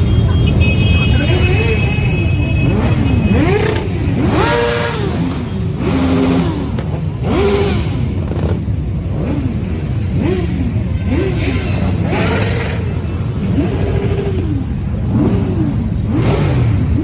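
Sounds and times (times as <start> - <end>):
motorcycles revving: 0.0 - 17.0.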